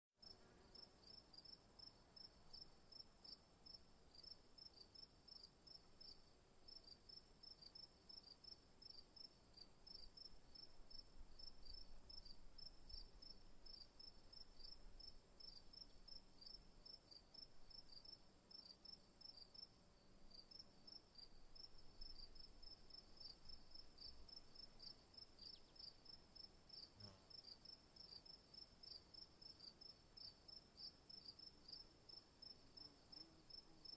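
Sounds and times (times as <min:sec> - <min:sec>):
insect chirping: 0:00.2 - 0:33.9.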